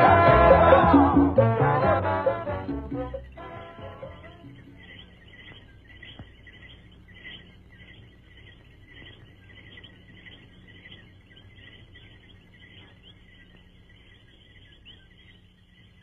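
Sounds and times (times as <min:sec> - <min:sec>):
low hum: 0:00.0 - 0:16.0
faint high-pitched chirping: 0:02.9 - 0:16.0.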